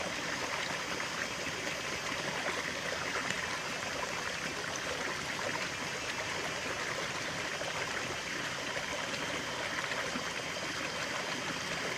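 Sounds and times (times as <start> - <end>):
stream babbling: 0.0 - 11.9.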